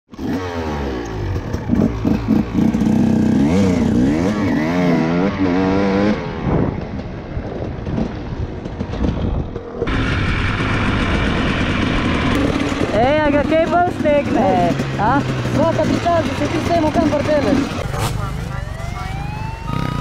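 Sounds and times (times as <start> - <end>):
dirt bike engine revving: 0.1 - 6.7, 9.9 - 20.0.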